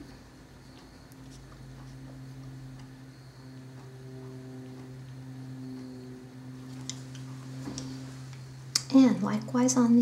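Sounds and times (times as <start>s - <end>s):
high quiet tones: 0.0s - 9.9s
steady low hum: 0.0s - 10.0s.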